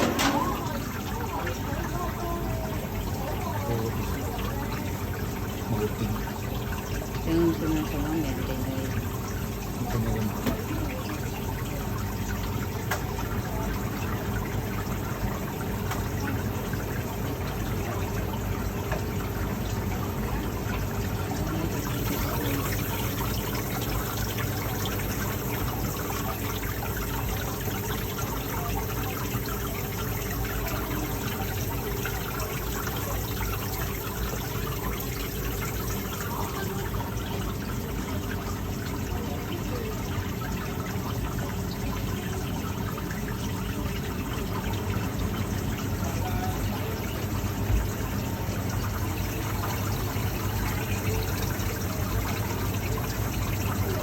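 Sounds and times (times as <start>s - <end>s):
water running and trickling: 0.0s - 54.0s.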